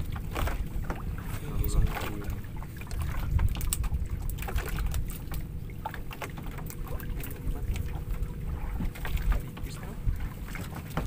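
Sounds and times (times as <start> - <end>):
wind and water against hull: 0.0 - 11.0.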